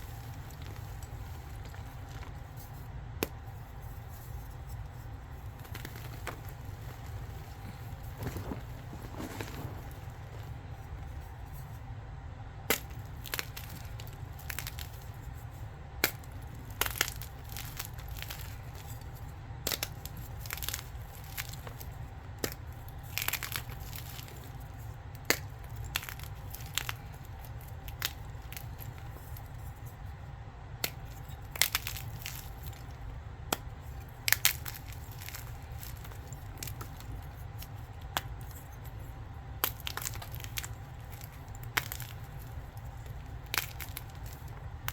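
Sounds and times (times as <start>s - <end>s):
chalk crunching and cracking: 0.0s - 11.8s, 12.6s - 44.9s.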